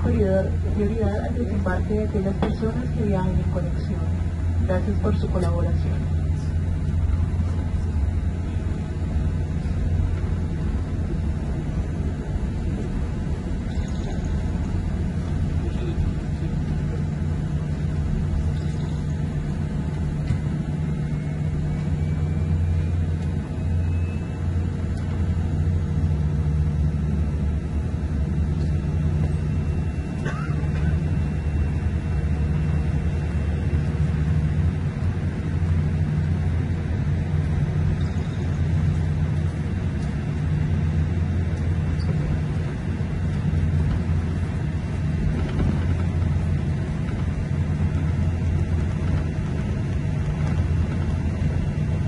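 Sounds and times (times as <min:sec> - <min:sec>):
aircraft cabin rumble: 0:00.0 - 0:52.0.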